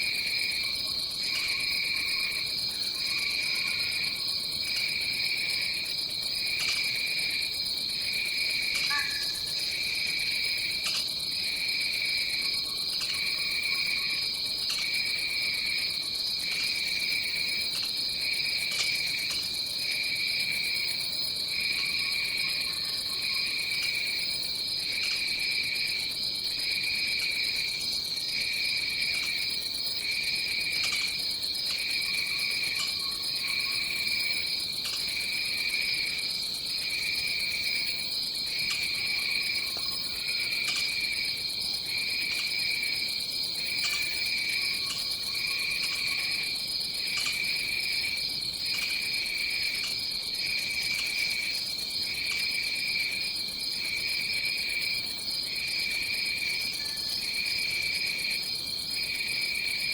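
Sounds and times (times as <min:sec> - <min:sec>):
high insect trill: 0:00.0 - 0:59.9
lower pulsing insect call: 0:00.0 - 0:59.9.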